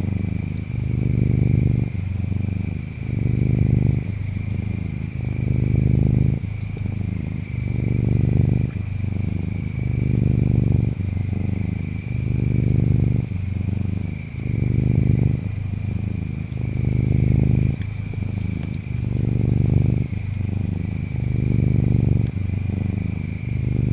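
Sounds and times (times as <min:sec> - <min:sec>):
cat purring: 0:00.0 - 0:23.9
insects chirping: 0:00.0 - 0:23.9.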